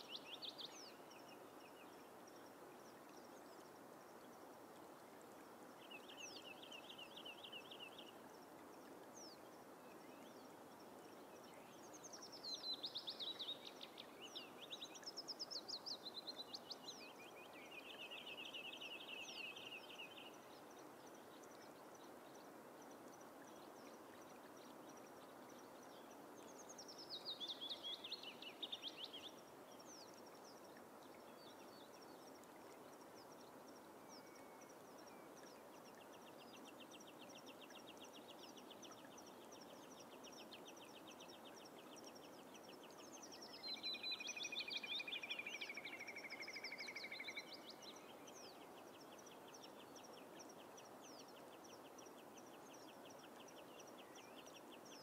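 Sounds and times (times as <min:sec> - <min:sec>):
soft background hiss: 0:00.0 - 0:55.0.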